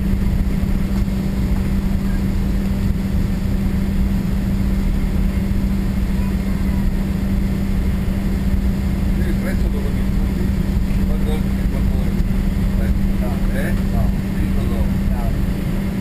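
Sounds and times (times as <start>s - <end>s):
constant low hum: 0.0s - 16.0s
jet engines idling drone: 0.0s - 16.0s
wheels rumbling on taxiway: 0.0s - 16.0s.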